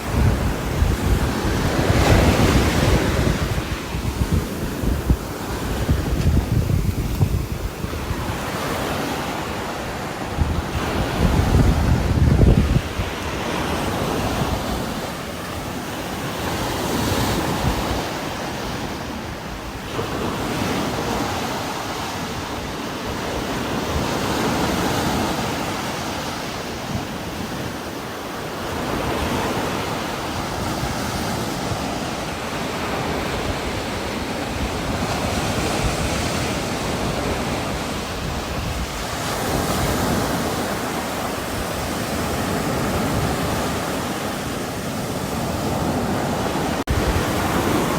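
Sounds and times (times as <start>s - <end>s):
wind gusting through trees: 0.0s - 47.9s.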